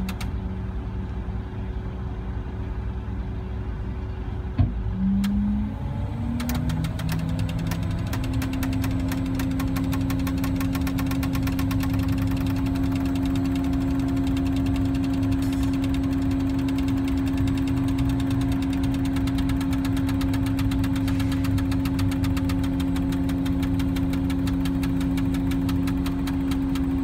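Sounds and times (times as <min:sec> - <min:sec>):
diesel crane engine revving: 0:00.0 - 0:27.0.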